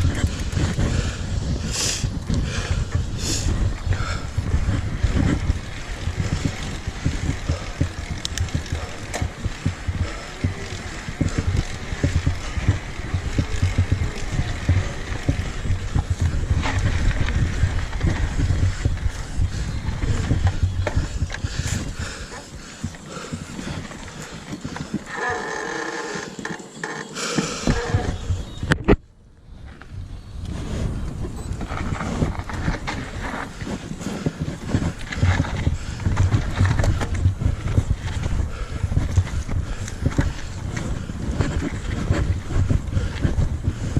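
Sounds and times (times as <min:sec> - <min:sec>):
wind rumble on microphone: 0:00.0 - 0:25.4, 0:27.6 - 0:43.9
bike rattling and knocking: 0:00.0 - 0:29.0, 0:30.7 - 0:43.9.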